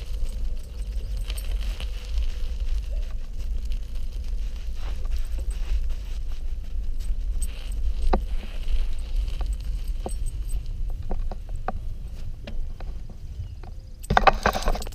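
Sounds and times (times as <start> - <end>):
bike clicks and rattles: 0.0 - 5.7, 6.9 - 14.9
bicycle rolling on pavement: 0.0 - 13.2.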